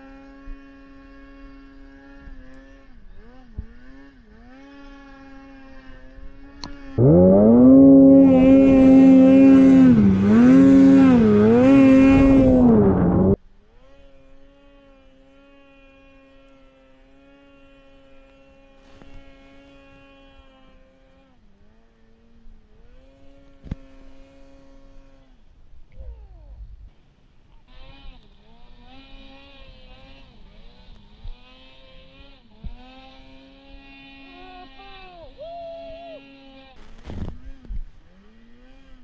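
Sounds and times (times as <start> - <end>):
snowmobile engine revving: 0.0 - 26.8, 27.6 - 39.0.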